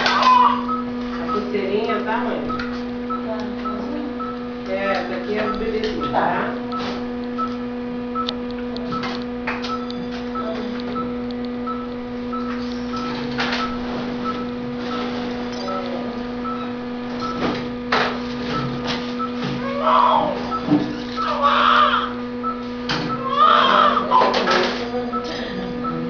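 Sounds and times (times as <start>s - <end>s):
electrical hum: 0.0s - 26.0s
patient monitor beeping: 0.0s - 26.0s.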